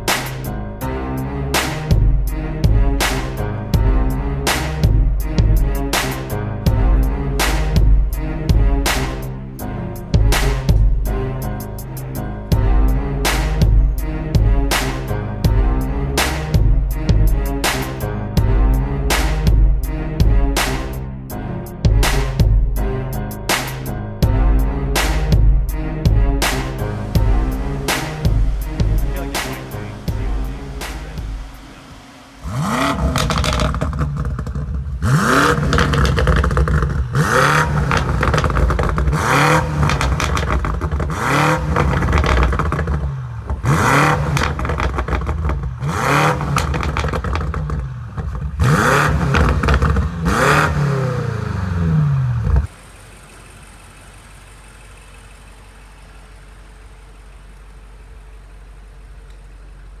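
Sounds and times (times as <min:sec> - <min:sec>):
car engine revving: 0:00.0 - 1:00.0
exhaust crackling and popping: 0:01.6 - 0:21.0, 0:23.4 - 1:00.0.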